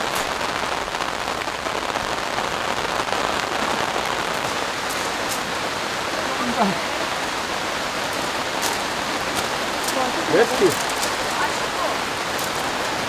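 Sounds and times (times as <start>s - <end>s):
rain on a tarp: 0.0s - 13.0s.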